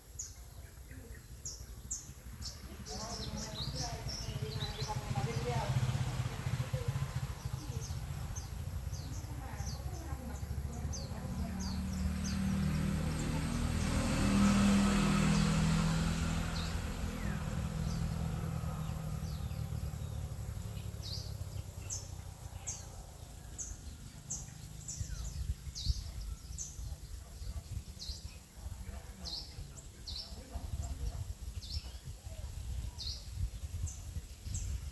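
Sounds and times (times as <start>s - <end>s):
birds chirping: 0.0s - 34.9s
vehicle passing by: 1.7s - 34.9s.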